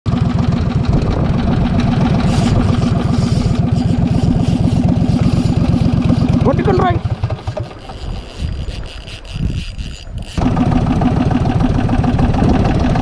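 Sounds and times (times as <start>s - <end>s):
boat engine running: 0.1s - 13.0s.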